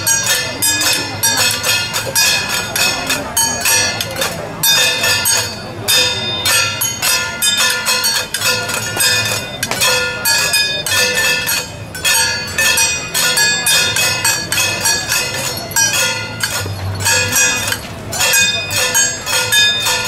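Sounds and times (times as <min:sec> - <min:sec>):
bell-like metallic strikes: 0:00.0 - 0:20.0.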